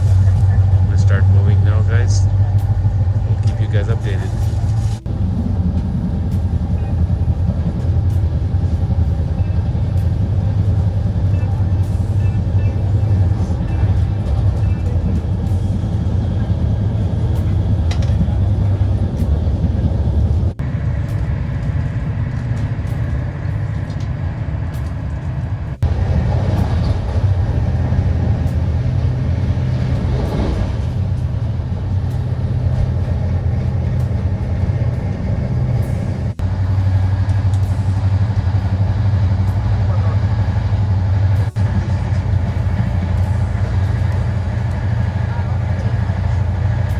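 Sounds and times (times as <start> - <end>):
train rumbling and humming: 0.0 - 46.9.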